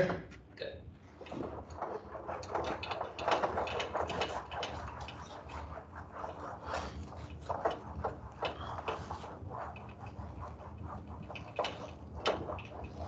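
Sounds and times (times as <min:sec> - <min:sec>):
eraser rubbing on whiteboard: 0:01.2 - 0:13.0.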